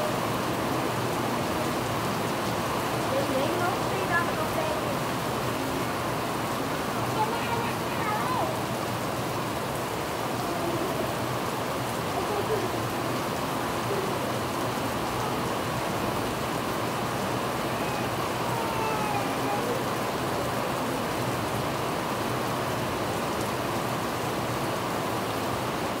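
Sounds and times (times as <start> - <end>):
heavy rain on trees and ground: 0.0 - 26.0.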